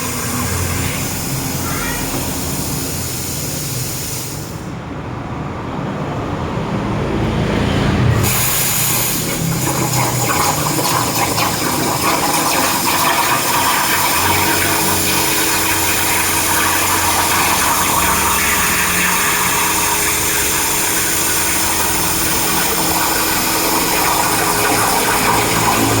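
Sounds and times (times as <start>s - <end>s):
plate-cutting machine hissing: 0.0s - 4.6s, 8.2s - 26.0s.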